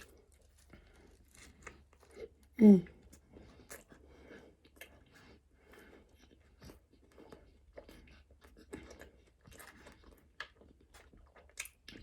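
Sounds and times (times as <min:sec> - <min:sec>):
chewing with small crunches: 0:00.0 - 0:12.0.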